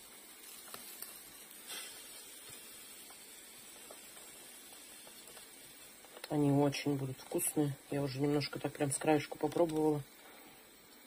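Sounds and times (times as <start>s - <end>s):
waffles sizzling in waffle maker: 0.0s - 11.0s.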